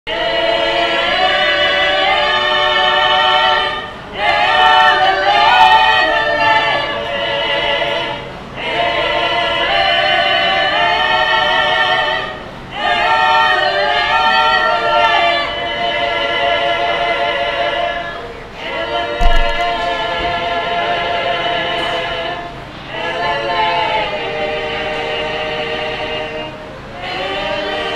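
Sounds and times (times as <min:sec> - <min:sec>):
mixed choir singing a cappella: 0:00.1 - 0:27.9.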